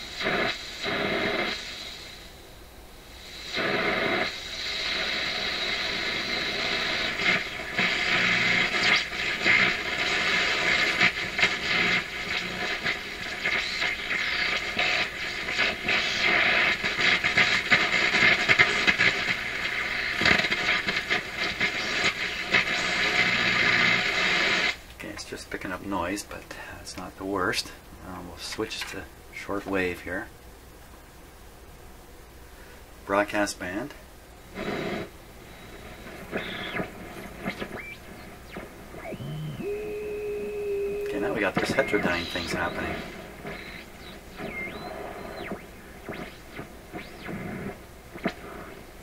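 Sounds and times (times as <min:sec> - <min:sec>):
radio static with steady tones: 0:00.0 - 0:30.3, 0:32.6 - 0:49.0.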